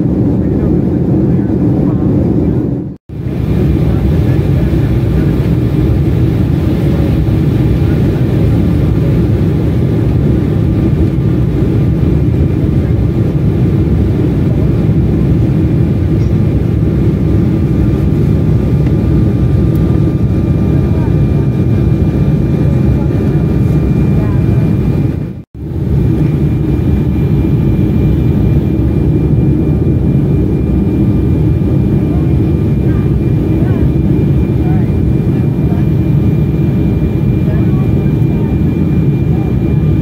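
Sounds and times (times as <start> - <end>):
airliner cabin rumble: 0.0 - 40.0.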